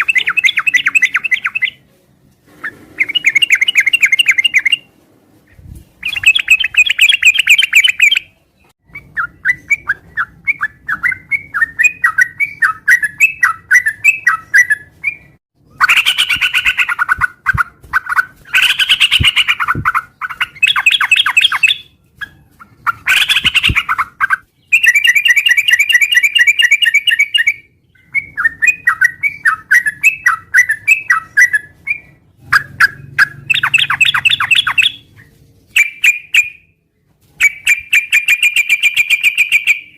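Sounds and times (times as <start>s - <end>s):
bird chattering song: 0.0s - 1.8s, 3.0s - 4.9s, 5.5s - 36.7s, 37.4s - 39.9s.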